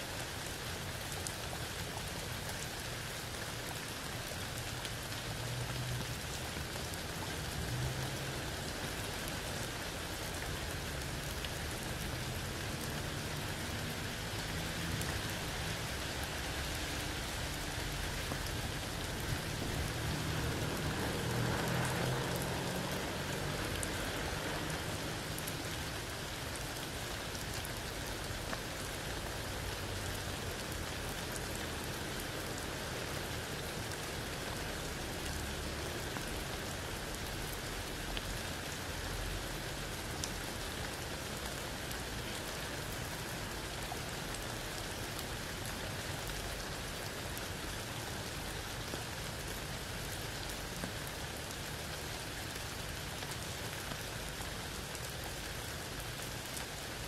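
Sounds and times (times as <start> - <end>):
rain through leaves: 0.0 - 57.0.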